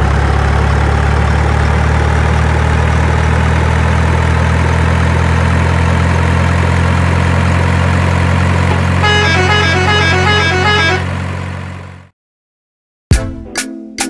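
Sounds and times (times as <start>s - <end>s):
truck engine idling: 0.0s - 12.1s.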